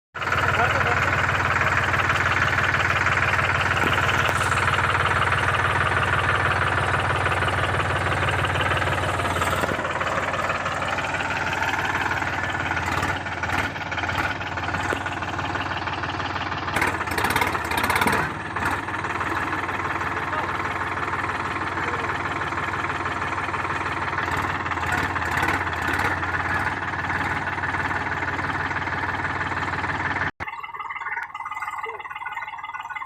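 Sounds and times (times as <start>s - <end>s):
tractor diesel engine running: 0.2s - 33.0s.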